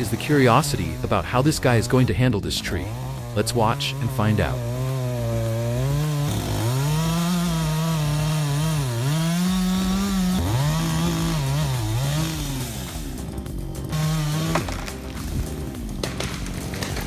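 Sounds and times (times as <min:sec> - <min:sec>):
chainsaw cutting a tree: 0:00.0 - 0:17.0.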